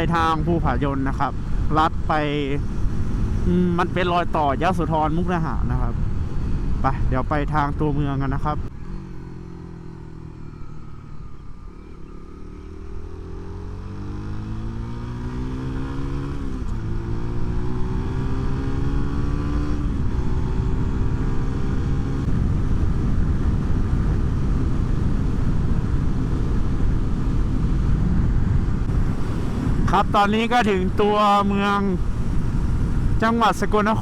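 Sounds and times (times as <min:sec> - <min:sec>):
wind and road rush: 0:00.0 - 0:34.0
vehicle engine accelerating: 0:00.7 - 0:06.8, 0:08.5 - 0:33.4.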